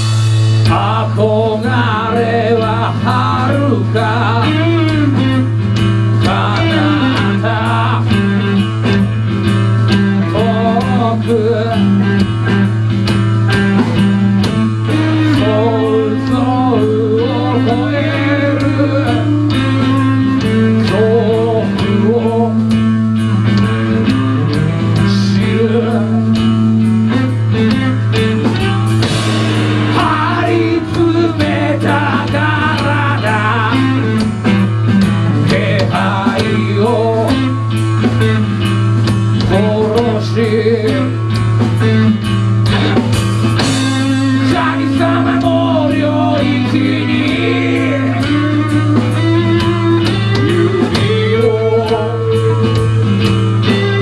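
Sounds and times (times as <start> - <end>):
acoustic guitar: 0.0 - 54.0
drums: 0.0 - 54.0
electric guitar: 0.0 - 54.0.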